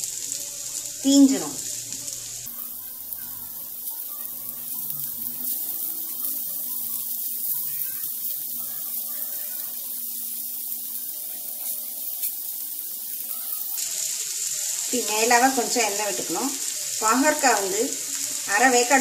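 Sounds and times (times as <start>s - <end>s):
vegetable slices frying in oil: 0.0s - 19.0s.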